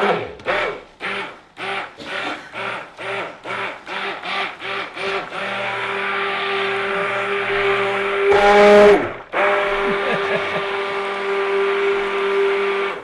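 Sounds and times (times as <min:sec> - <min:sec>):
stick blender revving: 0:00.0 - 0:13.0.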